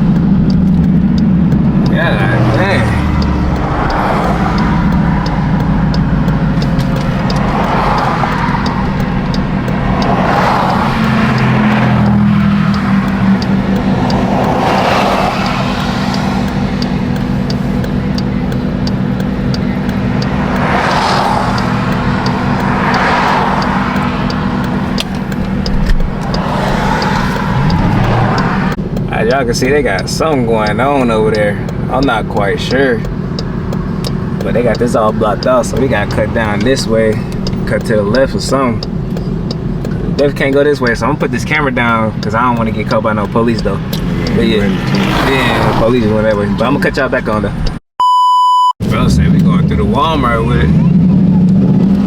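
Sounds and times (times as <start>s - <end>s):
car engine drone: 0.0s - 47.8s, 48.8s - 52.0s
road and wind noise whooshing: 0.0s - 47.8s, 48.8s - 52.0s.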